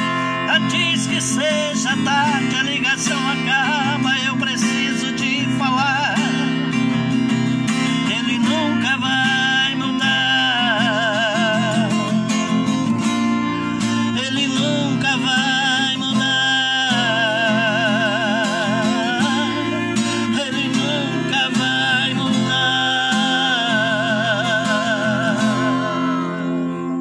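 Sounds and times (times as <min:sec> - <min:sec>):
man singing with vibrato: 0:00.0 - 0:27.0
strummed acoustic guitar: 0:00.0 - 0:27.0.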